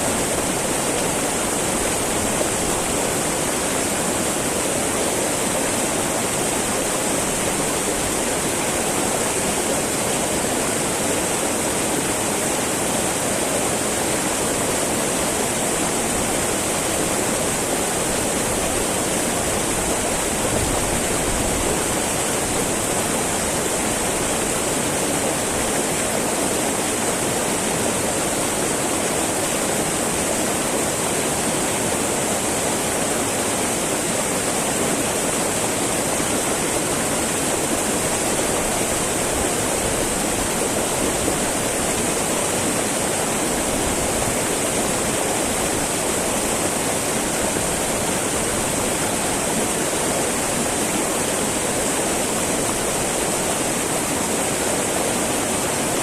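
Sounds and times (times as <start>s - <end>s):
river babbling over rocks: 0.0s - 56.0s.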